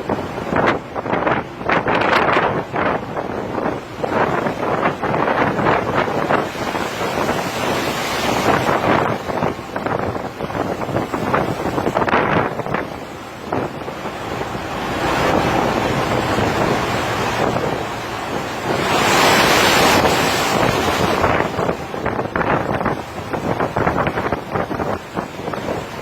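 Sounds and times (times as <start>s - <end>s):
heavy seas breaking on deck: 0.0s - 26.0s
storm wind buffeting microphone: 0.0s - 26.0s.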